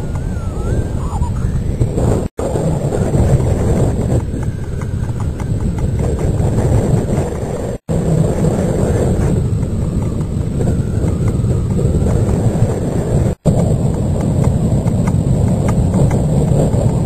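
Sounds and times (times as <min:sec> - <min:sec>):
low rumble and wind buffeting: 0:00.0 - 0:17.0.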